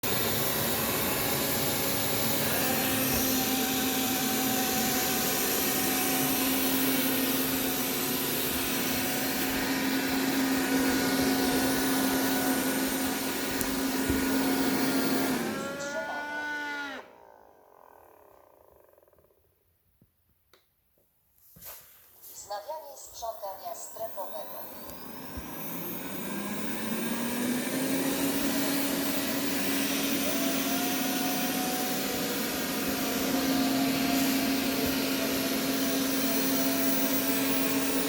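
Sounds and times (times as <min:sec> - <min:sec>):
robot vacuum fan humming: 0:00.0 - 0:19.5, 0:23.3 - 0:38.0.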